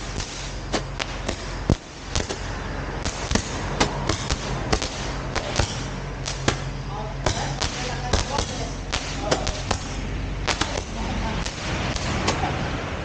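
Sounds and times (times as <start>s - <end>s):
firecrackers banging: 0.0s - 13.0s
steady low hum: 0.0s - 13.0s.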